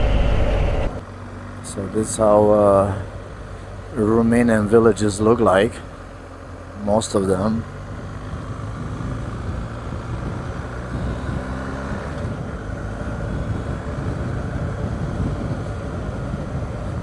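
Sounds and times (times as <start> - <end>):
motorcycle engine running: 0.0 - 11.6, 12.3 - 17.0
road and wind noise: 0.0 - 17.0.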